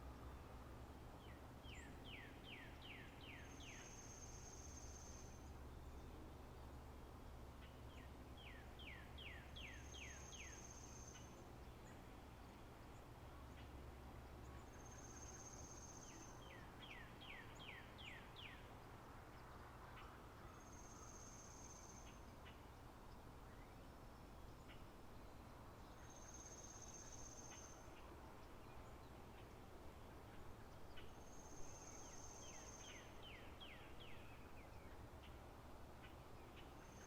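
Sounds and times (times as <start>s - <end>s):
faint birdsong ambience: 0.0s - 37.0s.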